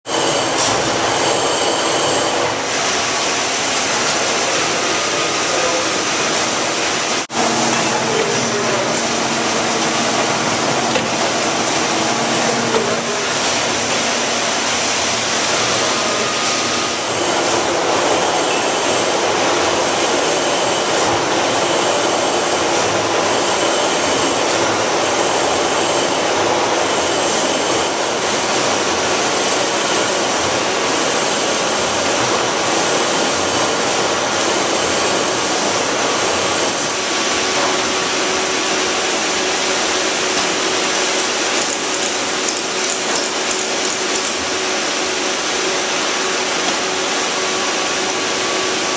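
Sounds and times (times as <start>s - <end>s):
processing machinery running: 0.1s - 48.9s.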